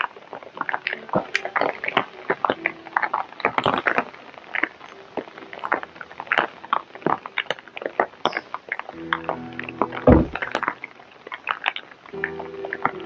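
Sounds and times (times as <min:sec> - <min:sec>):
large raindrops tapping: 0:00.0 - 0:13.0.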